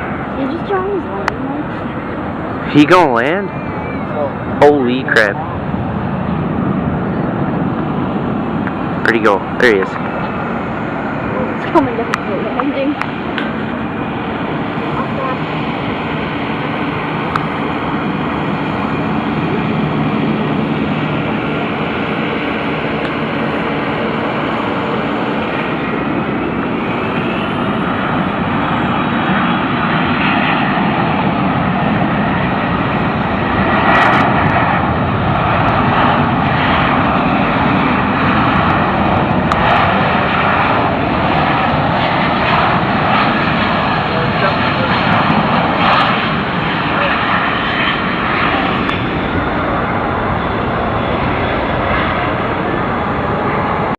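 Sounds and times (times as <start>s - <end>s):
high engine whines gliding in pitch: 0.0s - 53.9s
jet engines landing: 0.0s - 53.9s.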